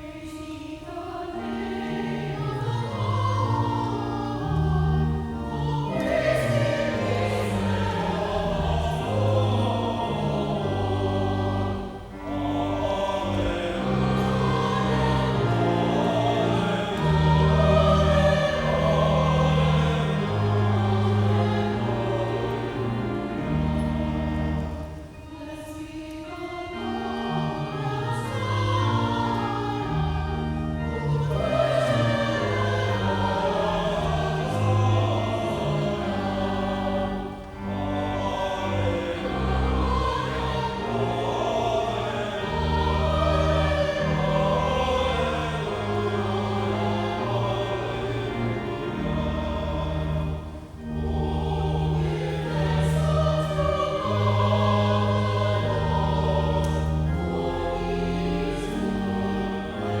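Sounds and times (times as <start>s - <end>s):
church choir singing: 0.0s - 60.0s.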